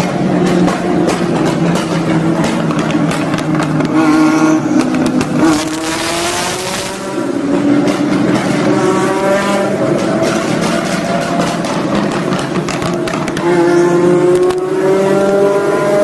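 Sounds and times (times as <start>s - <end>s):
car engine revving hard: 1.5s - 16.0s.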